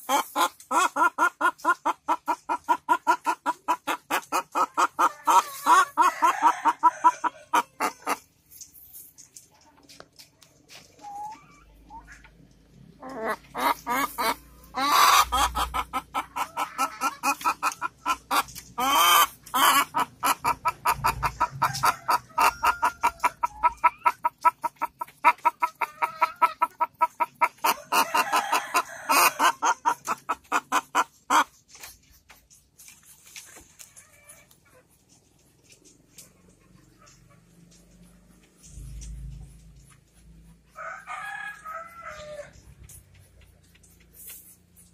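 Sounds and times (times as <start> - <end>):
hen clucking rapidly: 0.0 - 8.3, 10.8 - 44.9.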